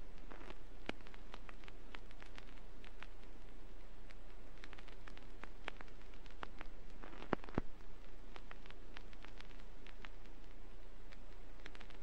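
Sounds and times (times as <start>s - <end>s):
low steady hum: 0.0s - 12.0s
record crackles and pops: 0.0s - 12.0s
vinyl record hiss: 0.0s - 12.0s.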